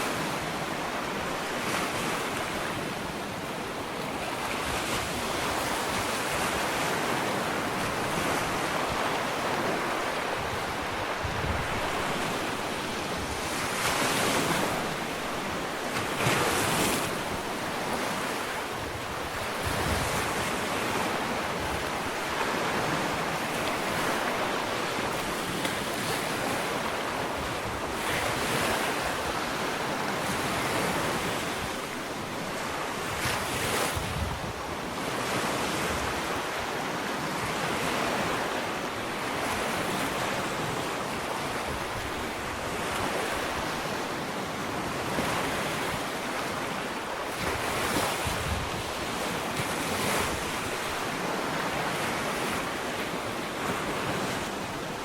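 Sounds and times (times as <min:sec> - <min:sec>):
ocean waves lapping on beach: 0:00.0 - 0:55.0.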